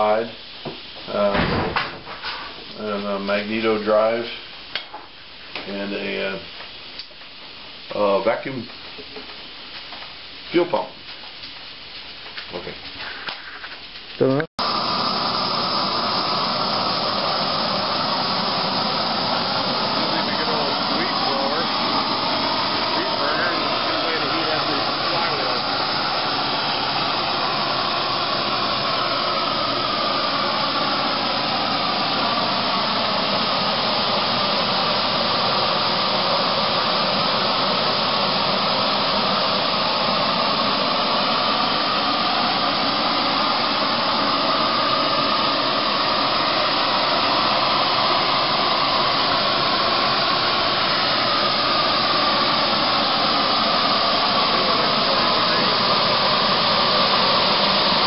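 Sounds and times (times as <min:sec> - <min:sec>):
gas torch hissing: 0:00.0 - 0:58.0.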